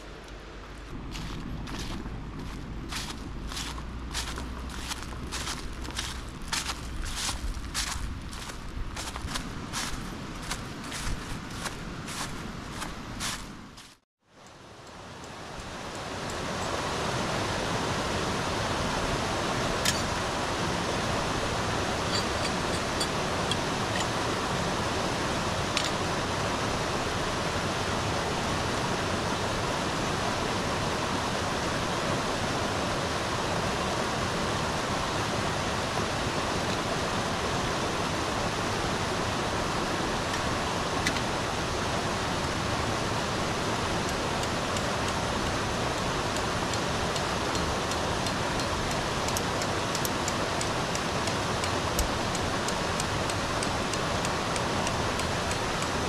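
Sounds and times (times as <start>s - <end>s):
river water rushing over rocks: 0.0s - 13.2s, 14.6s - 56.0s.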